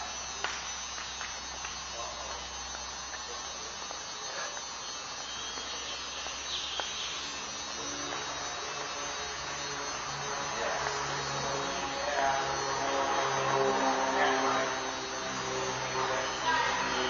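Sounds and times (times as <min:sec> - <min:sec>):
faint steady tones: 0:00.0 - 0:17.0
low hum: 0:00.0 - 0:17.0
room noise hiss: 0:00.0 - 0:17.0.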